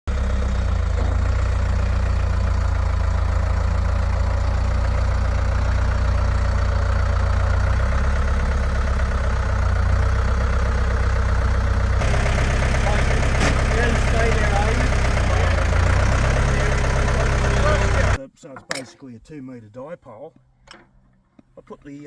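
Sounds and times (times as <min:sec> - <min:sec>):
engine idling: 0:00.1 - 0:18.2.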